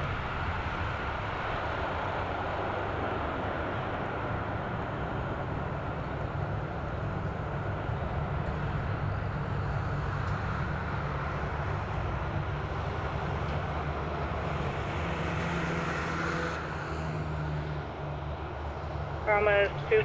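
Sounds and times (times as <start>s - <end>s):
fire truck engine drone: 0.0s - 20.0s.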